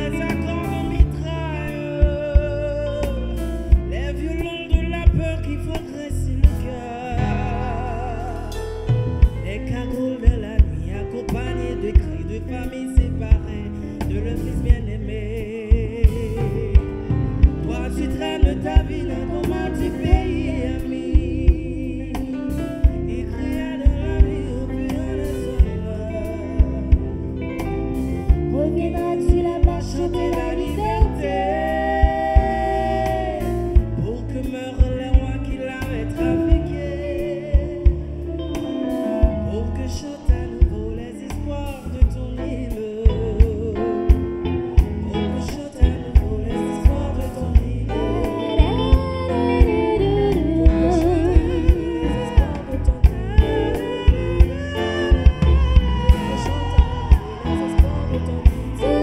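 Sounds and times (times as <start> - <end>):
band accompaniment with steady beat: 0.0 - 59.0
man and woman singing duet: 0.0 - 59.0.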